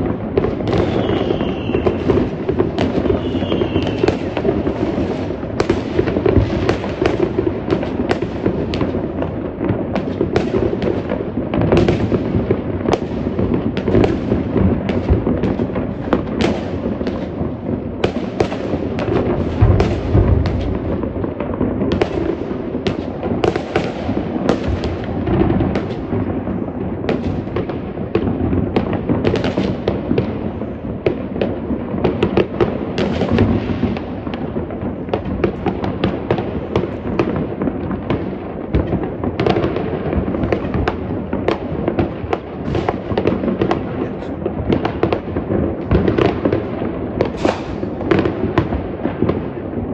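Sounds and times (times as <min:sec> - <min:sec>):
distant fireworks rumble: 0:00.0 - 0:49.9
fireworks bangs and cracks: 0:00.0 - 0:49.9.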